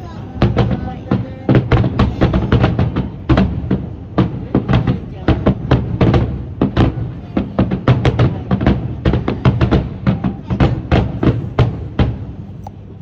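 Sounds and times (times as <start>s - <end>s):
fireworks bangs and booms: 0.0s - 13.0s.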